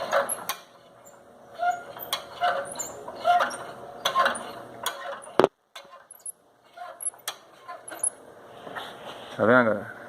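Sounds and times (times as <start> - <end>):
brake rod squeaking with a click: 0.0 - 8.2.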